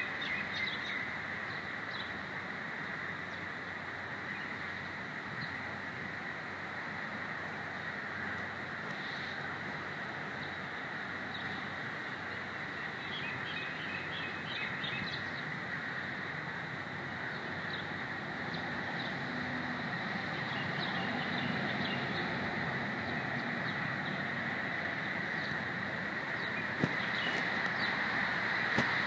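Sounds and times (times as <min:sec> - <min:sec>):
small birds chirping: 0:00.0 - 0:05.8, 0:07.6 - 0:29.0
constant high whine: 0:00.0 - 0:29.0
steady background drone: 0:00.0 - 0:29.0.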